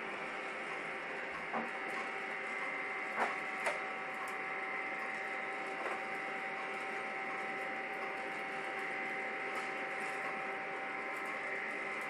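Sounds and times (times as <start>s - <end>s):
coffee roaster fan whirring: 0.0s - 12.0s.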